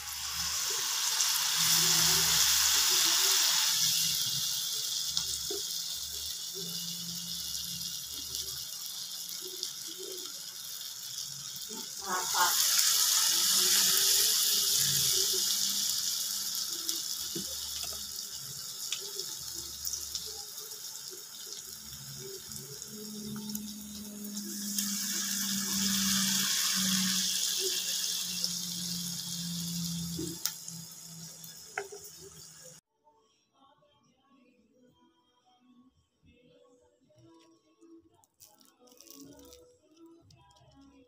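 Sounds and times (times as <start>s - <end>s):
batter sizzling in hot oil: 0.0s - 32.8s, 38.4s - 39.6s.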